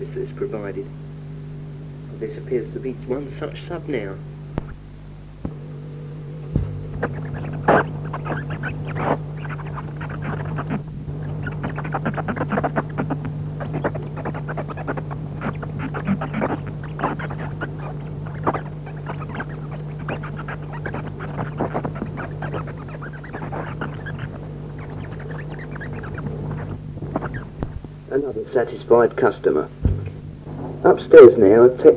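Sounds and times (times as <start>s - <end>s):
low electrical hum: 0.0s - 31.9s.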